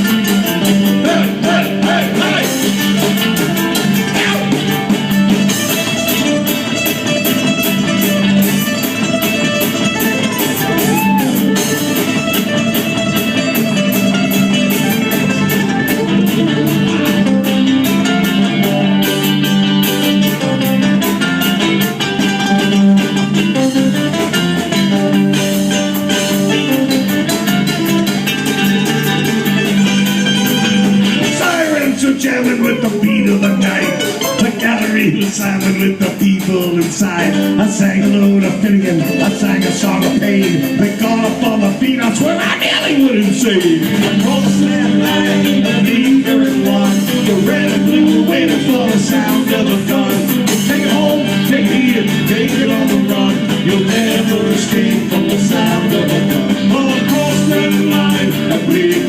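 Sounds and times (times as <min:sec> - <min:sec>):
live rock guitar with drums: 0:00.0 - 0:59.0.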